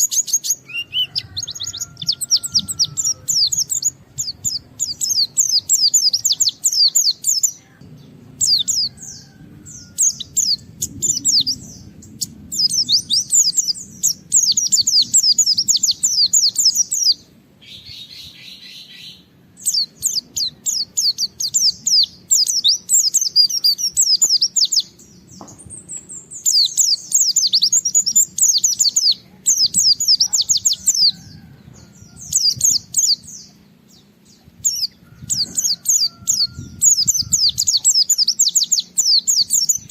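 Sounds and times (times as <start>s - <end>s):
bird fast high chattering song: 0.0s - 7.6s, 8.4s - 39.9s.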